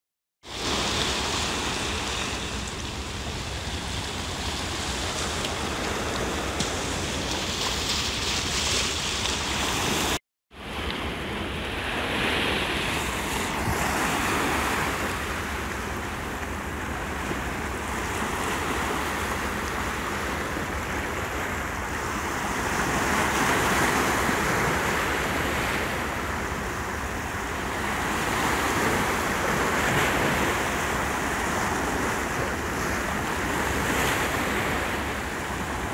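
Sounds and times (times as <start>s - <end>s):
waves washing over rocks: 0.4s - 35.9s.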